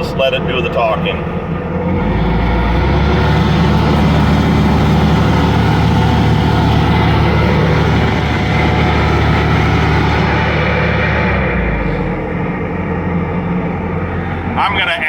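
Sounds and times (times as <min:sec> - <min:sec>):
engine drone: 0:00.0 - 0:15.0
stump grinder grinding: 0:00.0 - 0:15.0.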